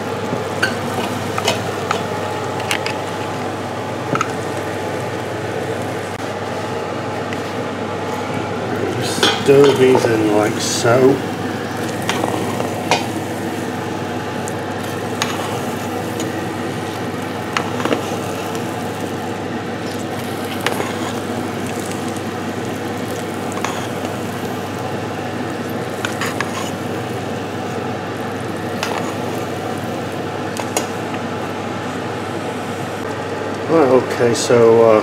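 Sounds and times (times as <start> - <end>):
rice simmering and sizzling: 0.0 - 34.6.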